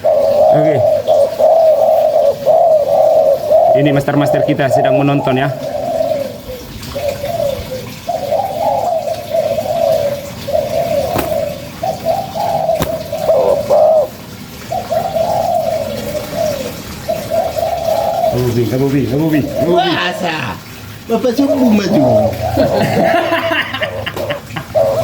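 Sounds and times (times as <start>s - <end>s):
dove cooing: 0.0s - 25.0s.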